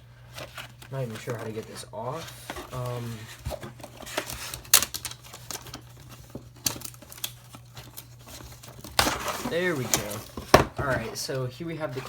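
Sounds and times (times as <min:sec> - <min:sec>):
packaging clicks and rustling: 0:00.2 - 0:11.2.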